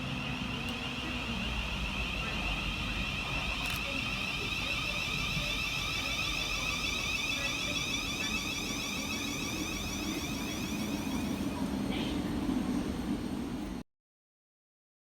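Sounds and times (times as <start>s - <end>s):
electric train whine: 0.0s - 13.8s.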